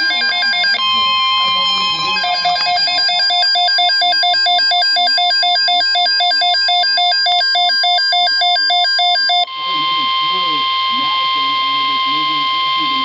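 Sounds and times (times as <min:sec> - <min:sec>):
electronic emergency alert tone: 0:00.0 - 0:13.0.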